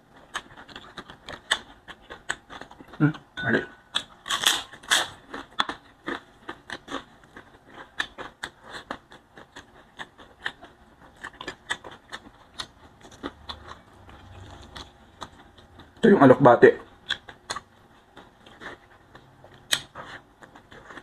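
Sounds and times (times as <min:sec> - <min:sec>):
chewing with crunches: 0:00.0 - 0:21.0.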